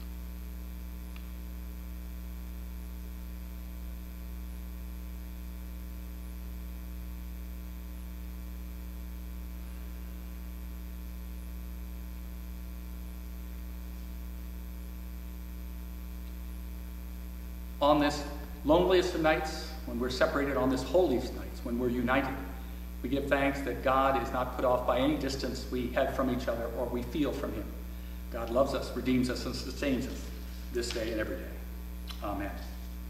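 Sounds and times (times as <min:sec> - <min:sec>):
low electrical mains hum: 0:00.0 - 0:33.0.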